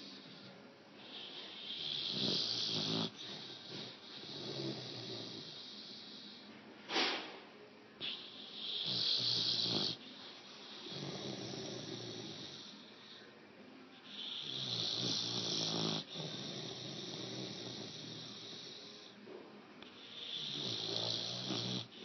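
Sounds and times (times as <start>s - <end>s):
dog snoring: 0.0s - 6.6s, 8.0s - 13.3s, 14.0s - 19.2s, 19.8s - 22.0s.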